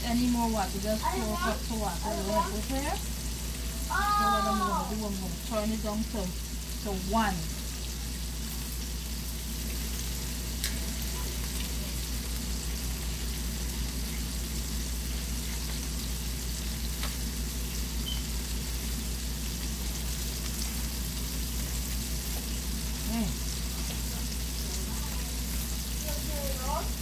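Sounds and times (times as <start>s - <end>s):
chicken deep-frying in oil: 0.0s - 27.0s.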